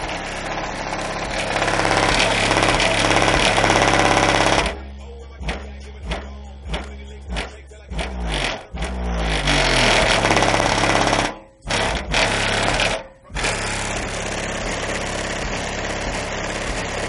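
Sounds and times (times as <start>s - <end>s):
bass-heavy music from subwoofers: 0.0s - 17.0s.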